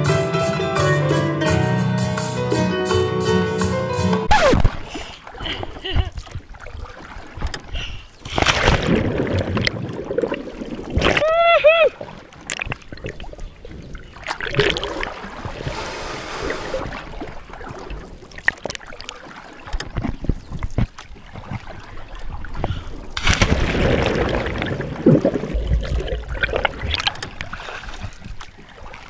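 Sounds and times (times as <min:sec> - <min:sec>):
sea water splashing: 0:04.3 - 0:29.0
underwater churning and bubbles: 0:04.4 - 0:29.0.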